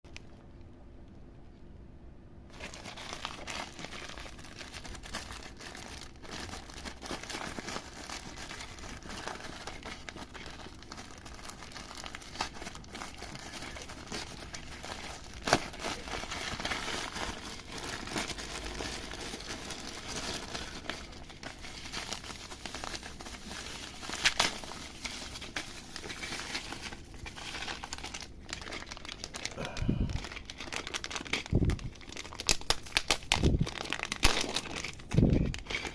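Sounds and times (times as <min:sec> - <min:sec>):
packaging crinkling and tearing: 0:02.5 - 0:35.9.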